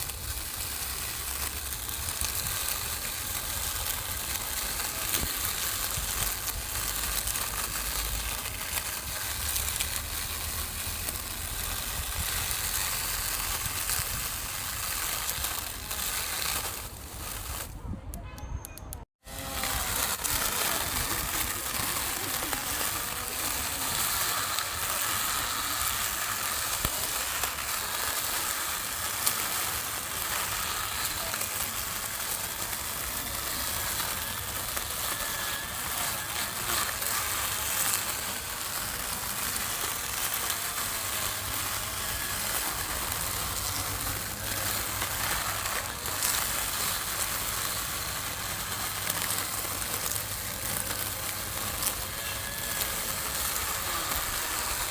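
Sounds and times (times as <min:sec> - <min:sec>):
lawn mower cutting grass: 0:00.0 - 0:17.8, 0:19.1 - 0:54.9.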